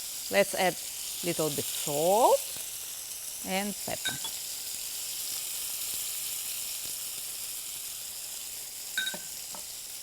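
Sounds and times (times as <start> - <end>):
onion sizzling in frying pan: 0.0 - 10.0.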